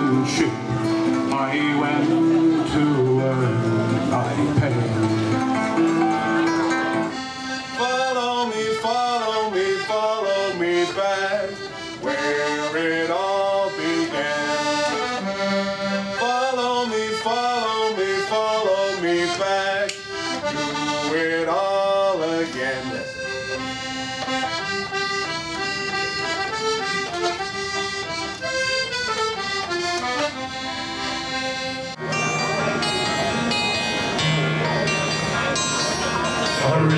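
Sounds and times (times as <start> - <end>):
button accordion playing: 0.0 - 36.9.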